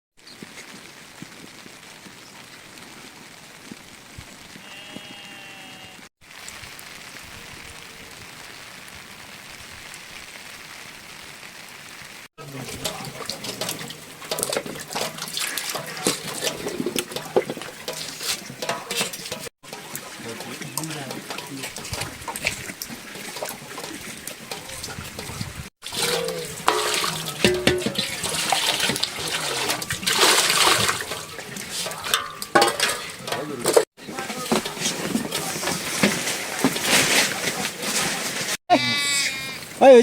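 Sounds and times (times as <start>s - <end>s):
rain hissing: 0.2s - 4.8s, 5.7s - 38.6s
rainwater splashing and dripping: 0.2s - 38.6s, 39.4s - 40.0s.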